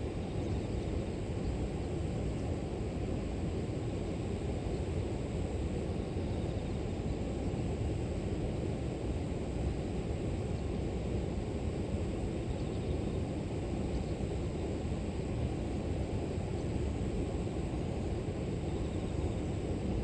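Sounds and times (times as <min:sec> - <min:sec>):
insects humming: 0:00.0 - 0:08.8, 0:09.5 - 0:20.0.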